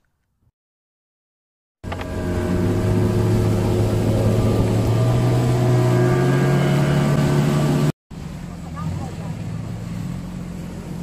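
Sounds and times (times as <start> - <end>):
outboard motor running: 1.8 - 11.0
water rushing along hull: 1.8 - 11.0.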